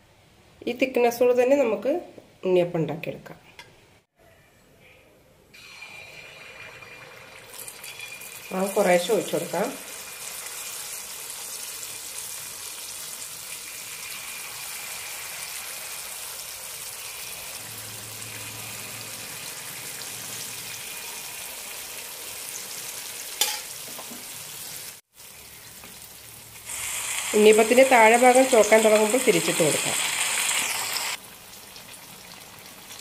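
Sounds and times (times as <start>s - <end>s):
batter sizzling in hot oil: 5.6s - 33.0s.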